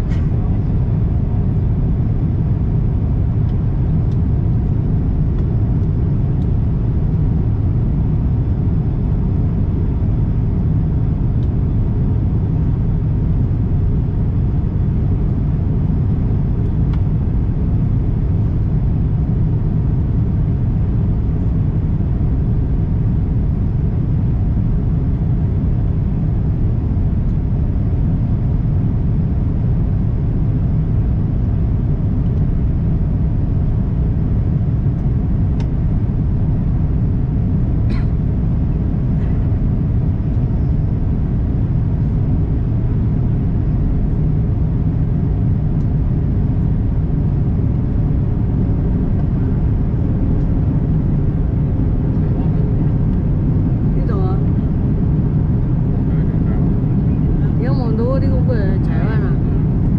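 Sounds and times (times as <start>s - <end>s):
aircraft cabin rumble: 0.0s - 59.9s
faint steady hum: 0.0s - 59.9s.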